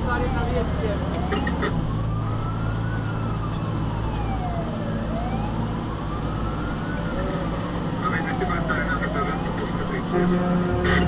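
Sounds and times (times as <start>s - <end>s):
fire engine siren wailing: 0.0s - 11.0s
truck engine drone: 0.0s - 11.0s.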